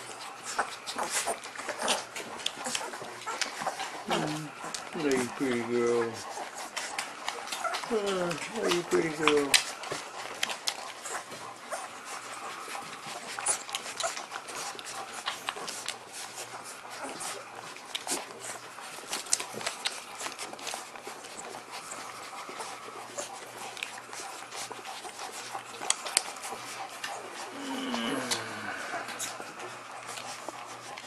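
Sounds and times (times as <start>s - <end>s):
dog panting: 0.0s - 31.0s
faint steady hum: 0.0s - 31.0s
puppies whimpering: 0.0s - 31.0s.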